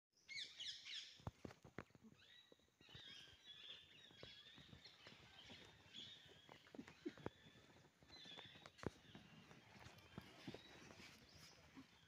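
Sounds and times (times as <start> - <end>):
faint birdsong: 0.2 - 12.0.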